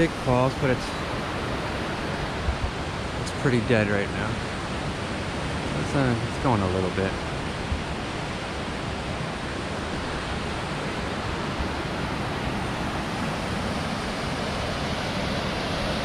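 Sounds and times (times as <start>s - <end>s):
river water rushing over rapids: 0.0s - 16.0s.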